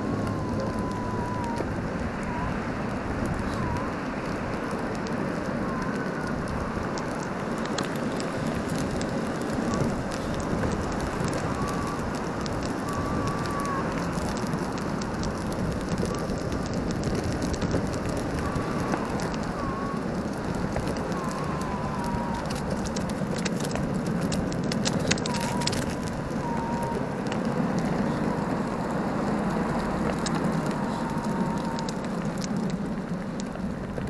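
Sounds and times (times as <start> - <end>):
clicks and ticks from grit: 0.0 - 34.0
skateboard wheels rumbling on asphalt: 0.0 - 34.0.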